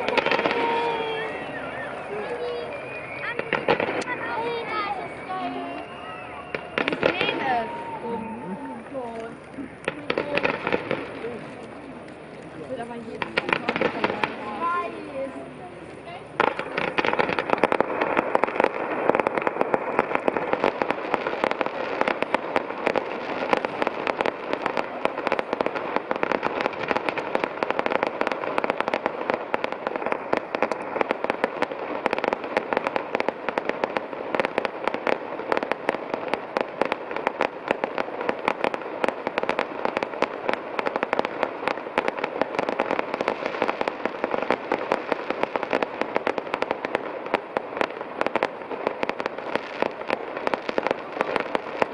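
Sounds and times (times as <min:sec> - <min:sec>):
fireworks crackling and banging: 0:00.0 - 0:51.9.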